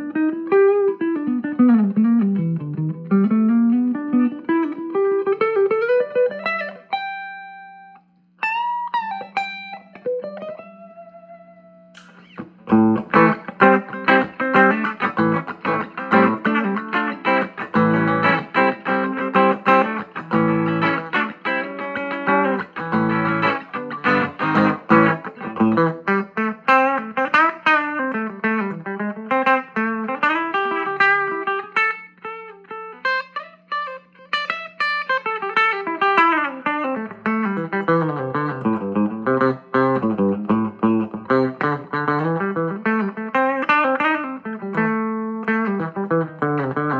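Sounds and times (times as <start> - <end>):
electric guitar picking and chords: 0.0 - 46.9.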